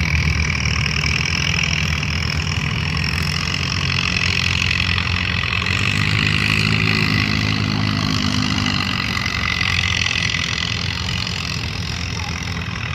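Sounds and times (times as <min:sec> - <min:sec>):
tractor engine running hard: 0:00.0 - 0:12.9.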